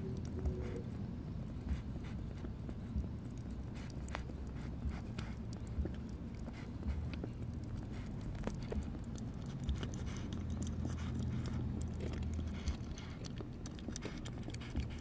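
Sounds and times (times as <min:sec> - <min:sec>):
kittens chewing and licking: 0:00.0 - 0:15.0
small wet clicks: 0:00.0 - 0:15.0.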